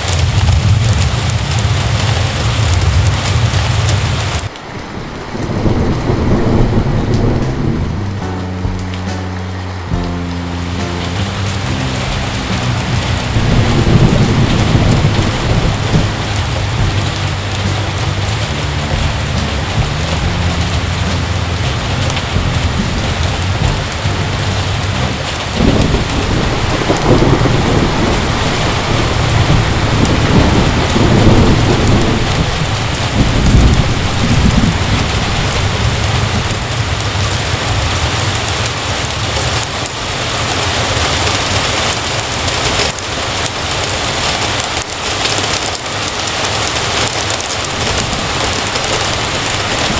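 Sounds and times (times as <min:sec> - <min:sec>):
heavy rain: 0:00.0 - 0:49.9
thunder rumbling: 0:00.0 - 0:49.9.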